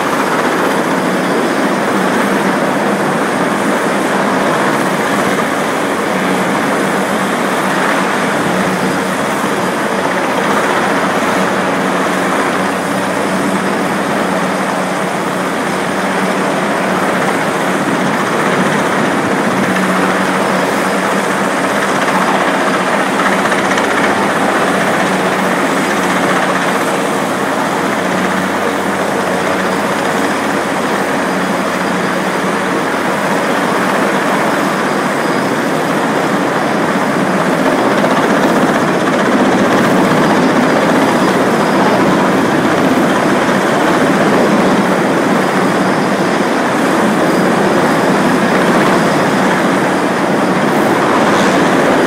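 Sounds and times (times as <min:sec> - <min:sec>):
helicopter rotor and engine drone: 0:00.0 - 0:52.0.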